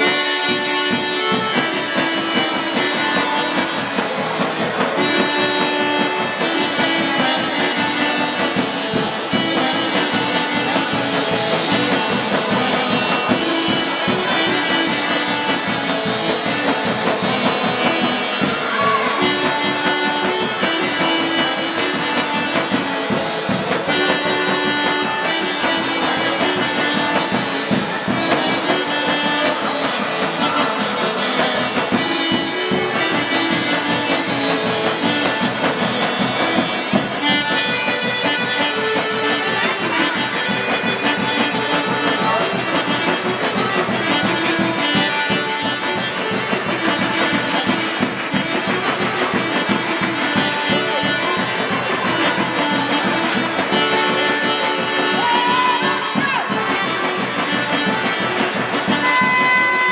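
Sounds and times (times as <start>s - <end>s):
folk dance music: 0.0s - 59.9s.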